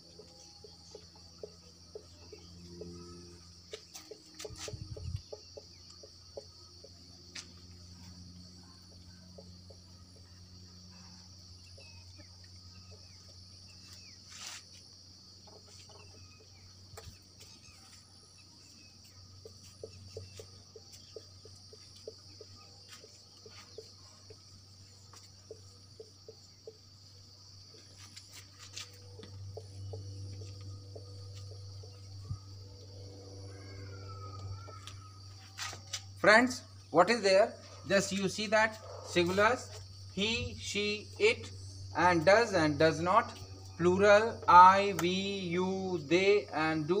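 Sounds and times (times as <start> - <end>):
high-pitched insect drone: 0.0 - 47.0.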